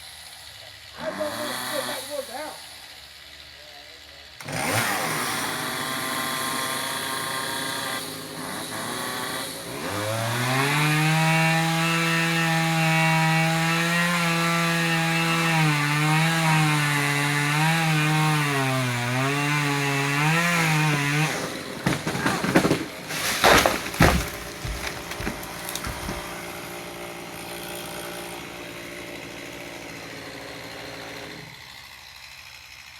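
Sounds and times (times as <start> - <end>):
chainsaw cutting wood: 0.0 - 32.9.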